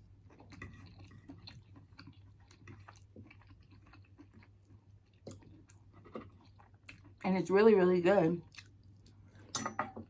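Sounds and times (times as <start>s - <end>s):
low electrical hum: 0.0s - 10.0s
person chewing: 0.2s - 7.2s, 8.5s - 9.6s.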